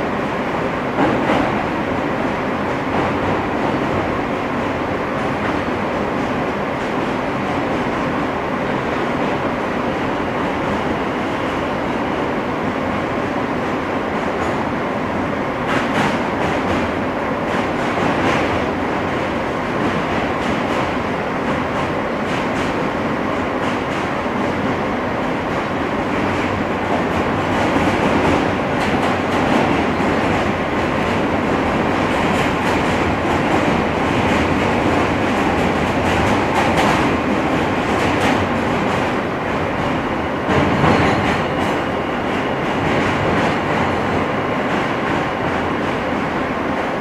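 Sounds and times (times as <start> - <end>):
subway car wheels rumbling: 0.0 - 47.0.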